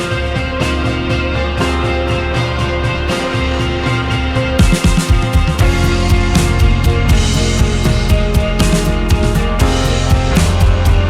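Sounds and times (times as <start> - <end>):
rock music with guitar: 0.0 - 11.0
sharp drum beats: 0.0 - 11.0.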